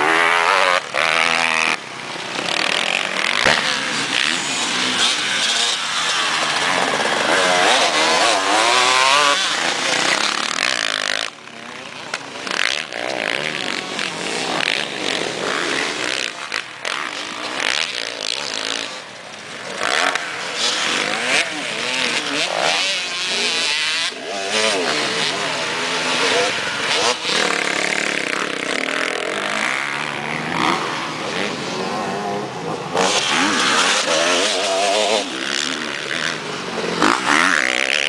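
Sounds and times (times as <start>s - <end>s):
dirt bike engines revving: 0.0s - 38.0s.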